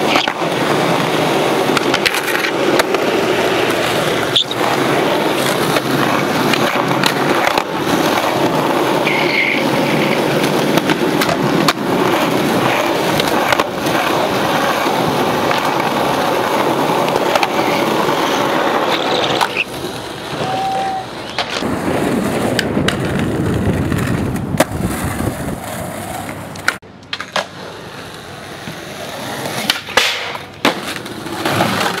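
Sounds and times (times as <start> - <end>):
skateboard clacking on ground: 0.0 - 32.0
skateboard wheels rolling on concrete: 0.0 - 32.0.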